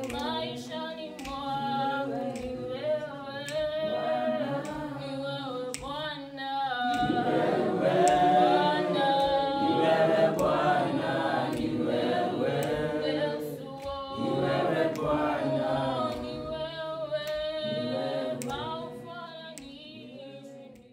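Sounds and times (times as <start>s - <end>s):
choir singing unaccompanied: 0.0s - 20.9s.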